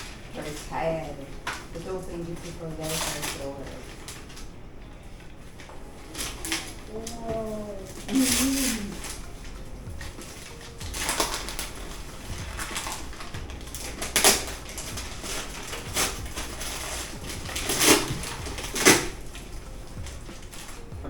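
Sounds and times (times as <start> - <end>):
wrapping paper crackling and tearing: 0.0 - 21.0.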